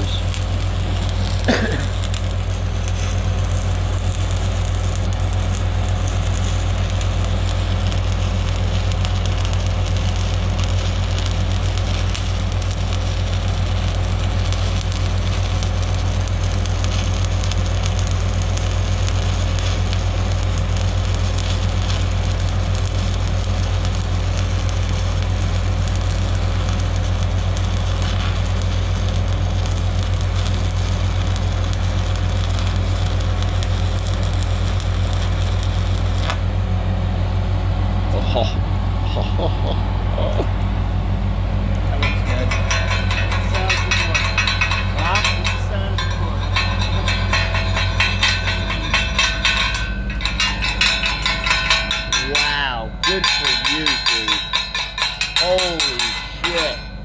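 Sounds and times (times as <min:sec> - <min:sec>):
welding arc crackling: 0:00.0 - 0:36.7, 0:41.7 - 0:57.0
low hum: 0:00.0 - 0:57.0.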